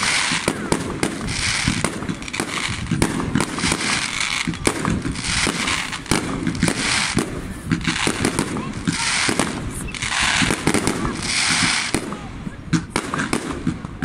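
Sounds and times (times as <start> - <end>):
continuous hiss: 0.0 - 14.0
fireworks bangs: 0.0 - 14.0.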